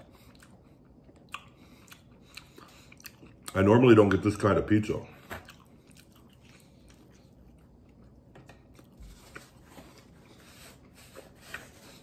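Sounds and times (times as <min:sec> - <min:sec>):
faint chewing: 0:00.0 - 0:04.4, 0:05.1 - 0:12.0.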